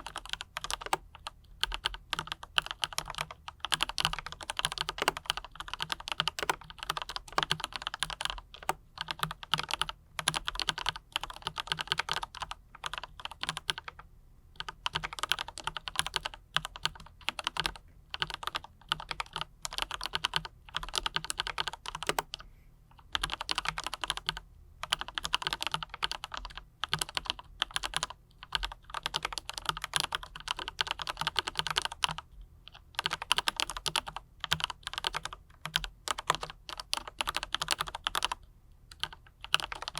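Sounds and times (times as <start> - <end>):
mechanical keyboard typing: 0.0 - 22.4, 23.0 - 39.9.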